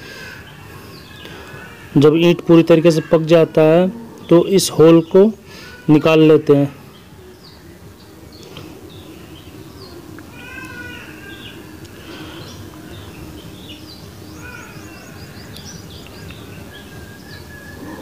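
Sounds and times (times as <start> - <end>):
birds chirping: 0.0 - 18.0
harsh arched bird calls: 0.0 - 18.0.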